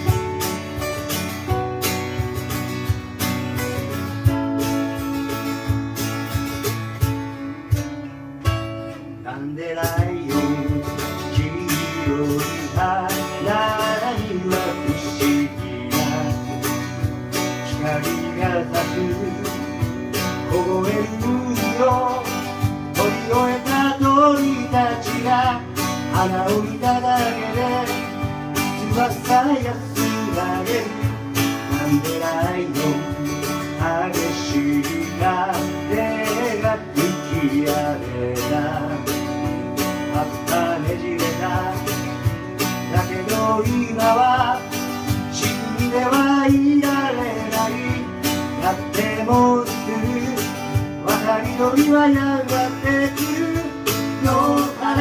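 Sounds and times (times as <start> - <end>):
acoustic guitars strumming: 0.0 - 55.0
cajon beat: 0.0 - 55.0
person singing: 9.2 - 39.3, 40.0 - 55.0.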